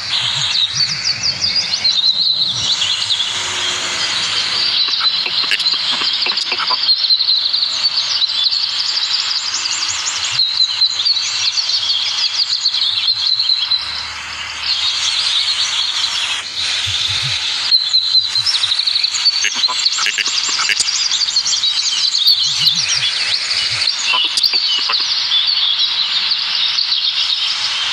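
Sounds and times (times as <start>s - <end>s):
chorus of birds chirping: 0.0s - 27.9s.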